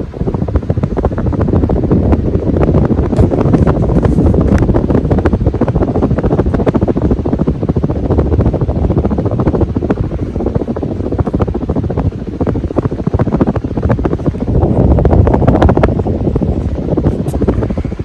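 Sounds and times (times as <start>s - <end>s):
ceiling fan wind buffeting microphone: 0.0s - 18.0s.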